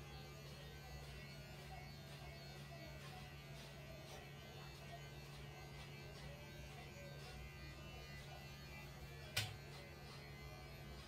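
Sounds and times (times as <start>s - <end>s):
electric hair clippers humming: 0.0s - 11.0s.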